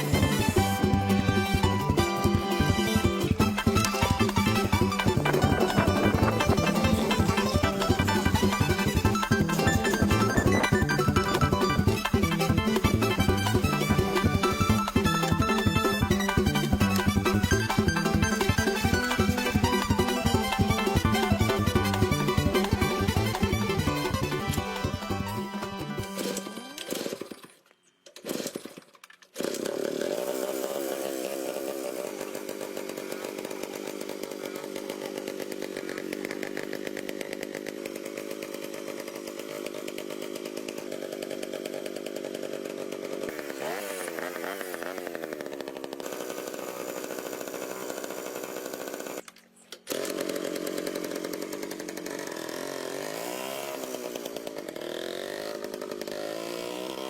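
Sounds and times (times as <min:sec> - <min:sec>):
motorcycle engine revving: 0:00.0 - 0:27.3, 0:29.5 - 0:49.2, 0:49.9 - 0:57.0.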